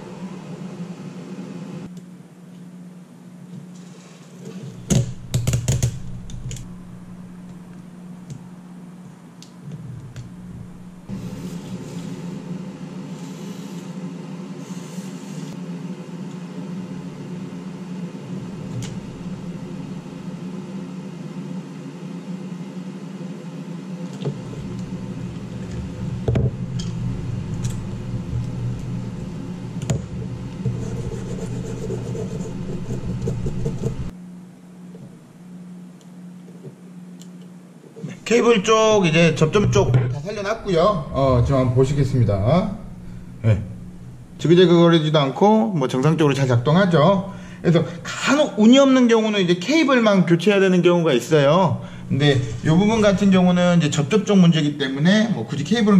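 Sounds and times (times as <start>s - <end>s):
electric blower fan humming: 0.0s - 55.9s.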